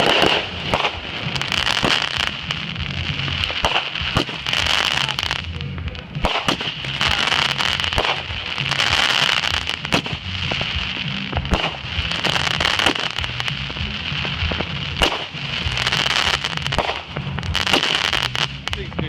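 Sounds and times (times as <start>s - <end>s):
fireworks crackling and popping: 0.0s - 19.0s
loud firework bangs: 0.0s - 19.0s.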